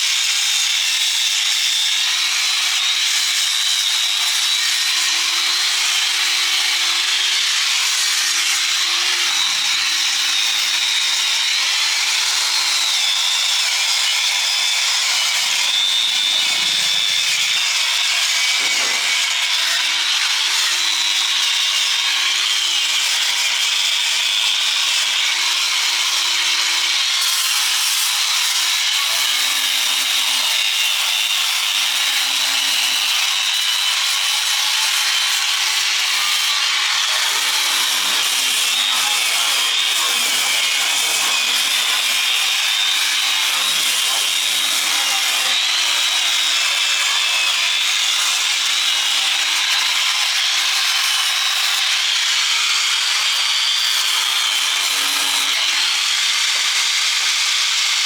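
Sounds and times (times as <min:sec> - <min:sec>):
electric grinder on steel: 0:00.0 - 0:58.0.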